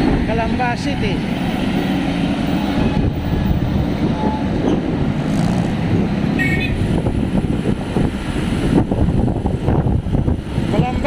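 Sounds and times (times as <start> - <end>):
bicycle road noise: 0.0 - 11.0
motor traffic: 0.0 - 11.0.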